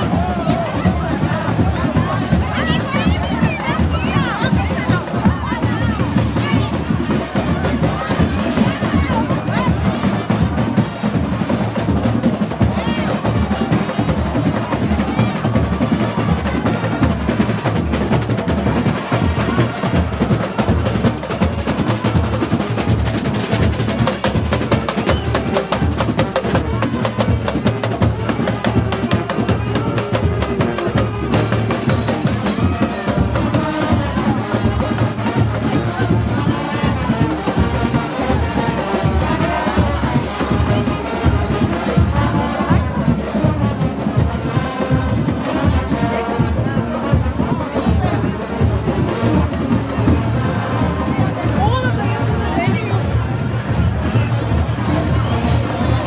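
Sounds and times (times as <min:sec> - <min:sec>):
crowd voices: 0:00.0 - 0:56.0
parade drums playing: 0:00.0 - 0:56.0.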